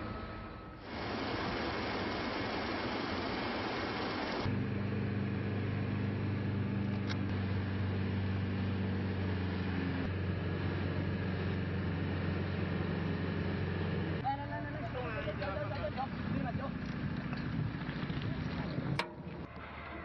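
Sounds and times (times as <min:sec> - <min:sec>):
ship engine droning: 0:00.0 - 0:20.0.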